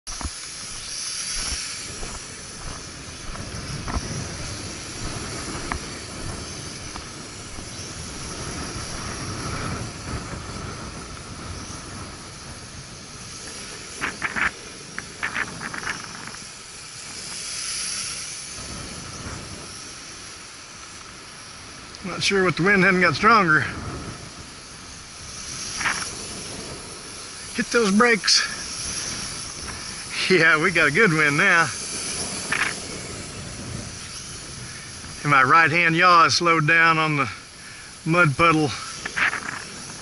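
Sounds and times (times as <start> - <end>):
gusty wind buffeting microphone: 0.1 - 40.0.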